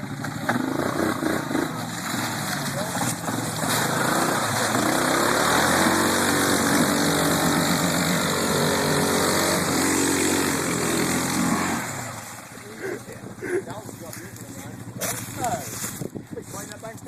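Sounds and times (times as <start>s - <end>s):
atv engine under throttle: 0.0s - 17.0s.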